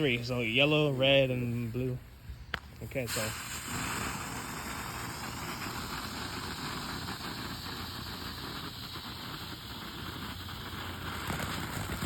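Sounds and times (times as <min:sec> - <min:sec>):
firework hissing and crackling: 0:00.0 - 0:12.0.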